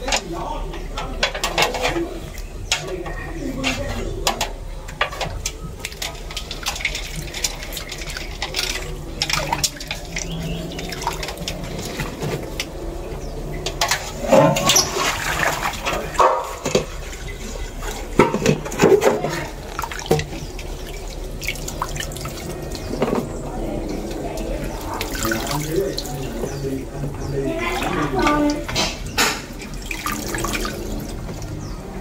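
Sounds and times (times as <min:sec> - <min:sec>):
water splashing in a metal basin: 0:00.0 - 0:32.0.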